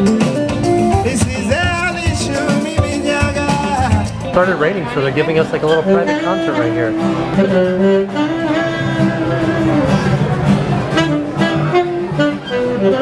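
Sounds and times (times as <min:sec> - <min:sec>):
guitar: 0:00.0 - 0:13.0
live band playing: 0:00.0 - 0:13.0.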